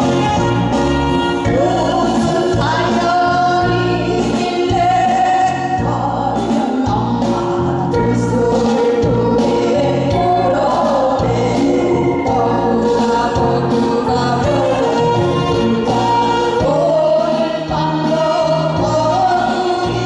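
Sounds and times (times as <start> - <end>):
women singing into microphones: 0.0 - 20.0.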